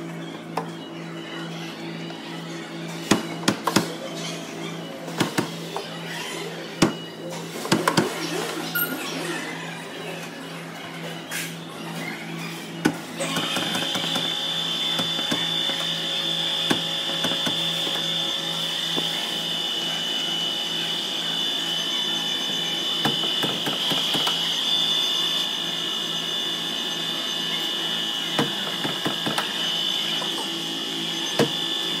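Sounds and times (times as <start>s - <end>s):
steady high-pitched whine: 0.0s - 32.0s.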